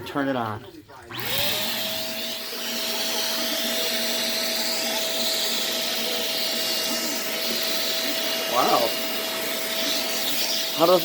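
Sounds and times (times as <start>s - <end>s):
vacuum cleaner running: 1.1s - 11.0s.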